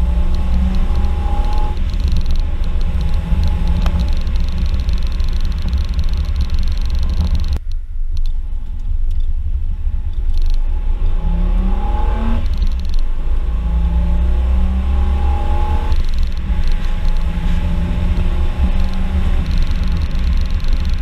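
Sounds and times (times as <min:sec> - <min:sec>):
car engine accelerating: 0:00.0 - 0:07.6, 0:08.4 - 0:21.0.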